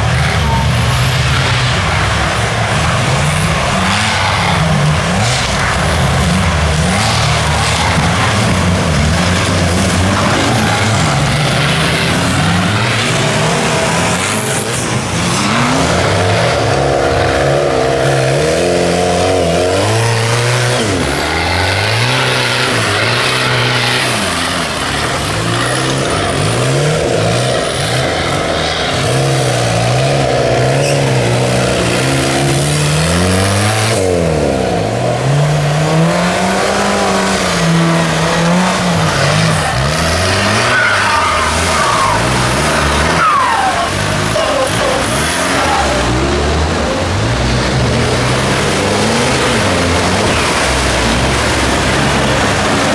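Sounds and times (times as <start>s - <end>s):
off-road engines revving hard: 0.0s - 52.9s.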